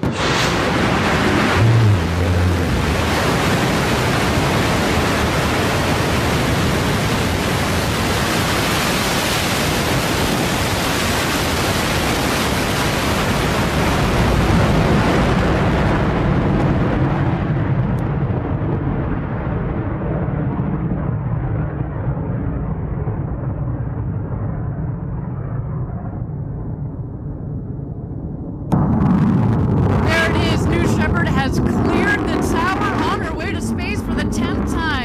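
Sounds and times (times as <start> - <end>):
rocket engine rumble: 0.0 - 35.0.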